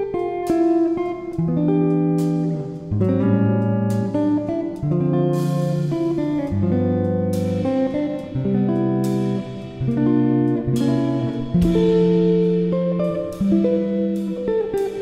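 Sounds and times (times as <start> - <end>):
guitar-led instrumental music: 0.0 - 15.0.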